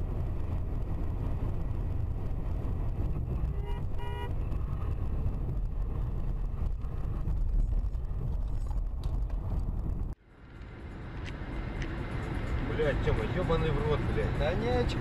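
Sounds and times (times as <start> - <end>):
car road and engine rumble: 0.0 - 15.0
wind noise: 0.0 - 15.0.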